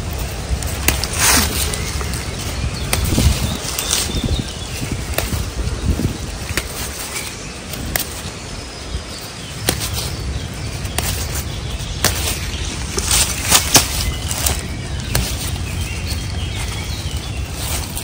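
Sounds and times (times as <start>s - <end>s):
plant stems snapping: 0.0s - 8.4s, 9.6s - 18.0s
undergrowth rustling: 0.0s - 18.0s.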